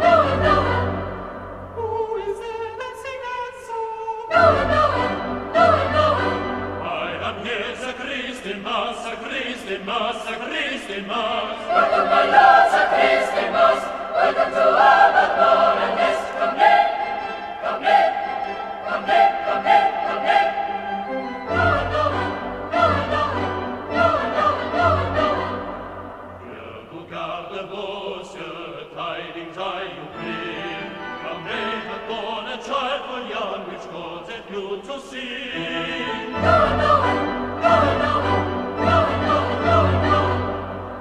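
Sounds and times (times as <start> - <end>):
choir singing a carol: 0.0 - 41.0.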